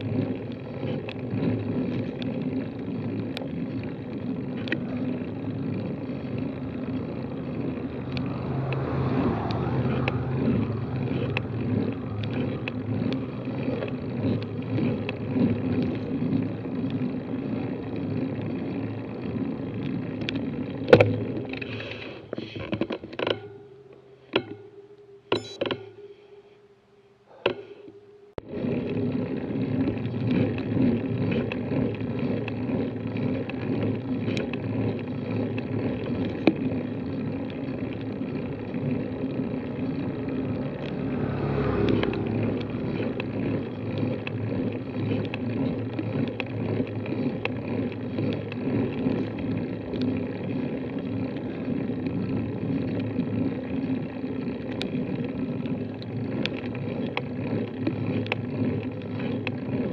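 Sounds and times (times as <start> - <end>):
motorcycle approaching: 0.0 - 26.6, 27.3 - 59.9
bicycle riding rumble: 0.0 - 59.9.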